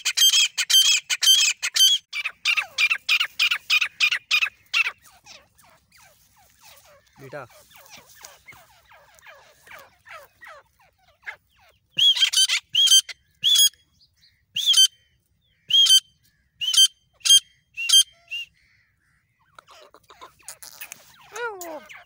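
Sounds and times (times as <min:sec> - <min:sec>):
francolin calling: 0:00.0 - 0:22.0.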